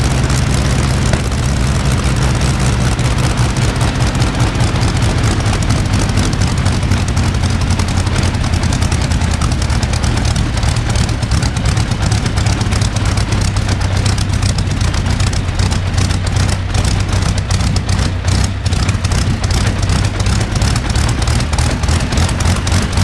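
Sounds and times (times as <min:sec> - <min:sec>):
aero engine running: 0:00.0 - 0:23.0.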